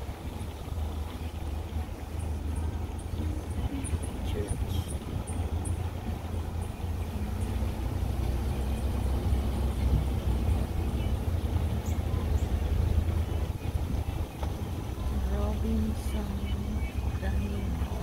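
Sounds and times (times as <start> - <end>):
car driving slowly from inside: 0.0 - 18.0.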